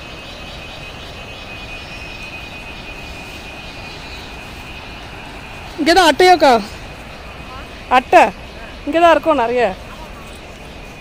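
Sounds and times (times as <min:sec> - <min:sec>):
river rushing: 0:00.0 - 0:11.0
thin high whine: 0:00.0 - 0:11.0.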